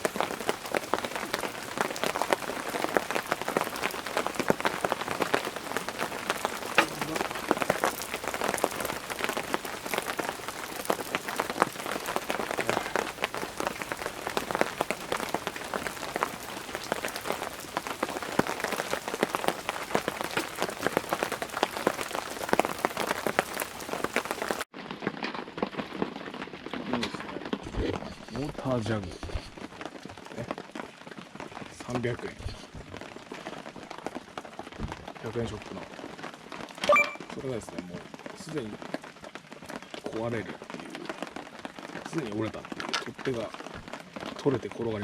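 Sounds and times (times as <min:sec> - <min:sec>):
rain pattering: 0:00.0 - 0:45.0.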